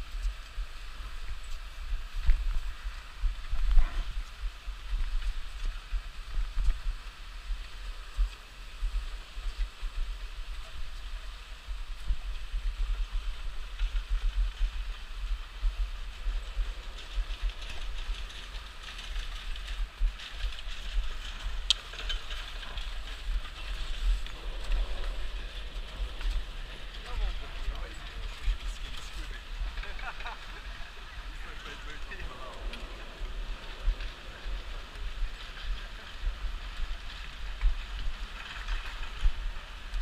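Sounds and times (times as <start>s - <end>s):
skis scraping over slushy snow: 0.0s - 40.0s
wind rumble on microphone: 0.0s - 40.0s.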